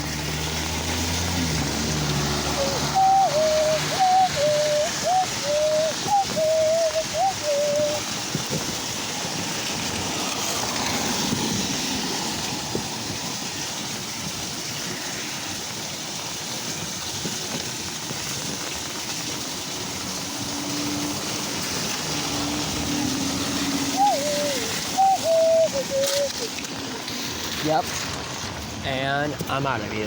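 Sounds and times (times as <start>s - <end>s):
rain and water rushing into drain: 0.0s - 30.0s.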